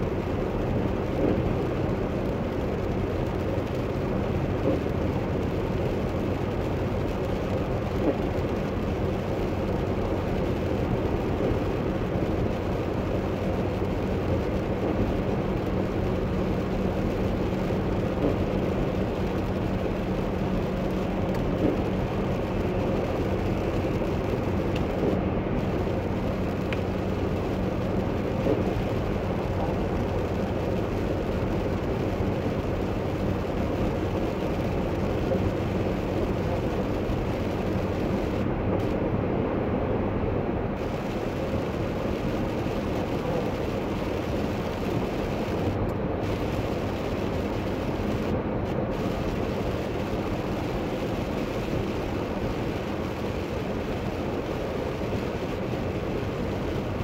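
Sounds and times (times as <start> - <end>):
tyres hissing on wet road: 0.0 - 39.3, 40.6 - 57.0.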